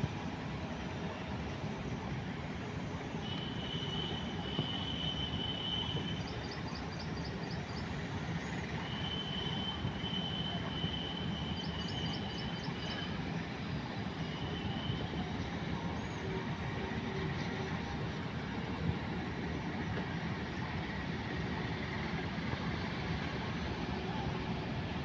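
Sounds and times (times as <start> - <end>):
distant locomotive rumble: 0.0 - 25.0.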